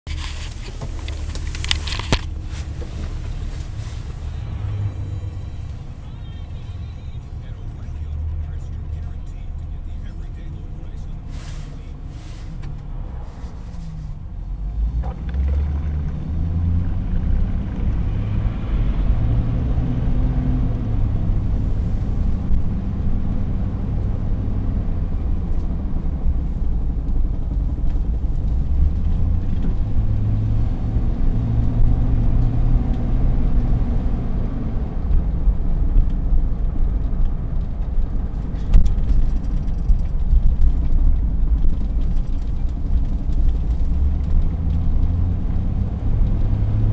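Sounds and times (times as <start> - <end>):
road rumble: 0.0 - 46.9
pickup truck engine: 0.1 - 46.9.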